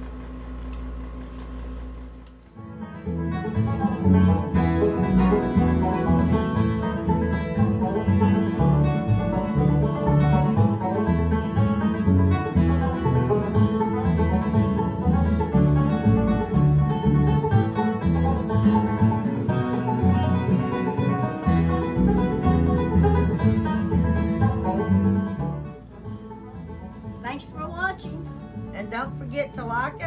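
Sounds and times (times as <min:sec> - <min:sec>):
instrumental music: 0:02.6 - 0:30.0.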